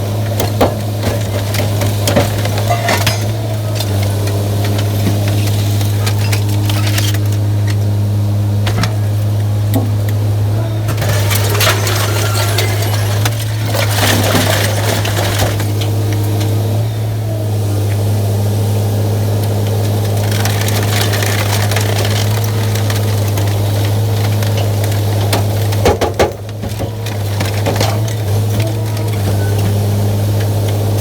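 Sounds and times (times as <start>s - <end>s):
baler machine humming: 0.0s - 31.0s.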